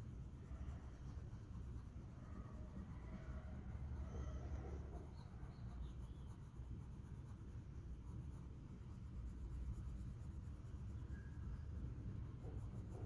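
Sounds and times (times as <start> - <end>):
low background rumble: 0.0 - 13.0
pencil scratching on paper: 0.0 - 13.0.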